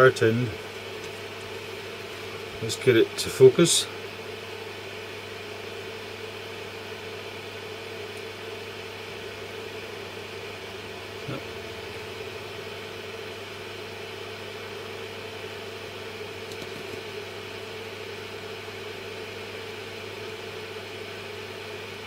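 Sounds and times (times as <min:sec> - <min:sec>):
small fan humming: 0:00.0 - 0:22.0.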